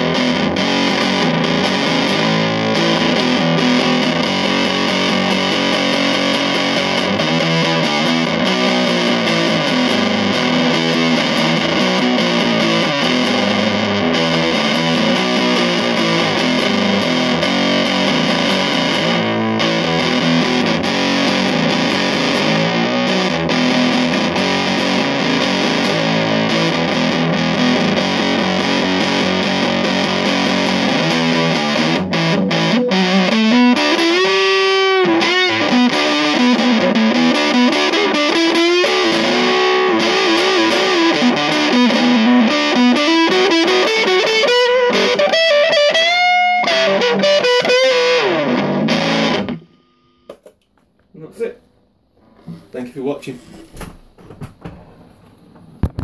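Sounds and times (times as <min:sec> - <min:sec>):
fuzz-distorted electric guitar: 0:00.0 - 0:50.5, 0:55.7 - 0:56.0.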